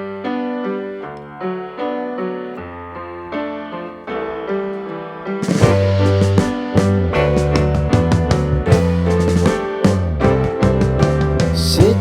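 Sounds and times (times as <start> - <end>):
electric piano chords: 0.0 - 12.0.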